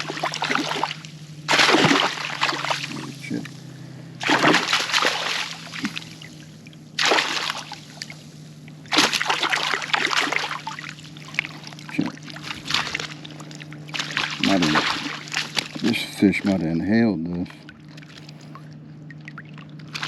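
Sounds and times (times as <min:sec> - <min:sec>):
fish splashing in water: 0:00.0 - 0:16.6, 0:17.6 - 0:20.0
steady low hum: 0:00.0 - 0:20.0.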